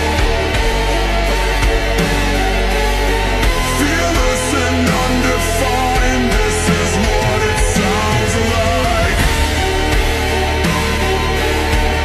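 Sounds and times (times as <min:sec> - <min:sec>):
slowed metal music: 0:00.0 - 0:12.0.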